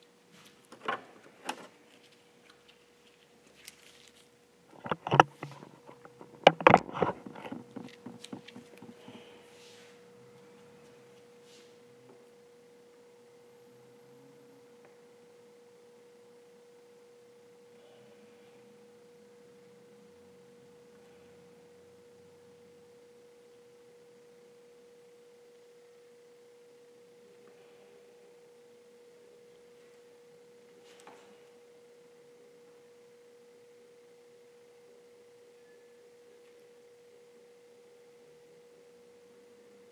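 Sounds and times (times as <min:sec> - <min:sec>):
steady pure hum: 0:00.0 - 0:39.9.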